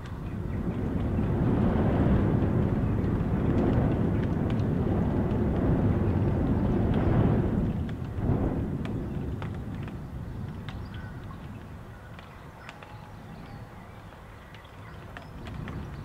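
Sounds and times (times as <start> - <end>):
rain tapping on window: 0.0 - 16.0
wind gust against house: 0.0 - 16.0.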